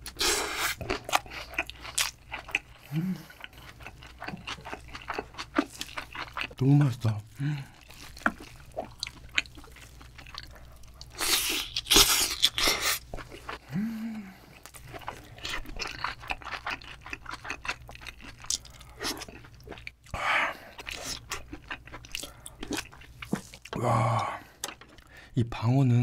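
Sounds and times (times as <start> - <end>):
close chewing: 0.0 - 13.7, 14.4 - 24.0.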